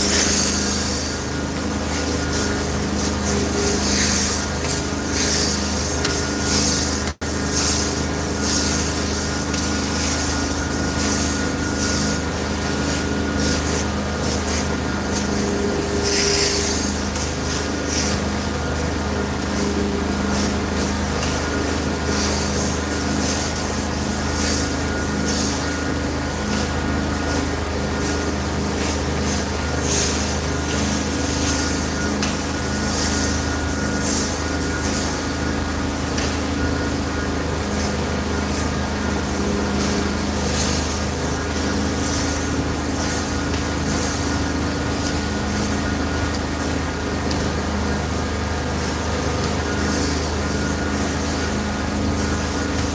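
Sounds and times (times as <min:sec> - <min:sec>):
extraction machine drone: 0:00.0 - 0:52.9.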